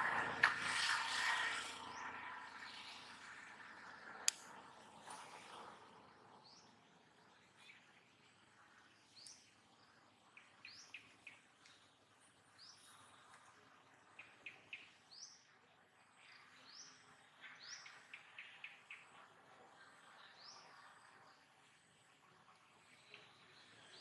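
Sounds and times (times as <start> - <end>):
faint outdoor hiss: 0.0 - 24.0.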